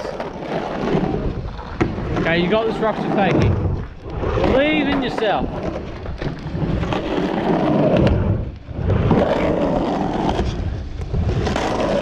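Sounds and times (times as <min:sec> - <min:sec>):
skateboard clacks: 0:00.0 - 0:12.0
skateboard wheels rumbling: 0:00.0 - 0:12.0.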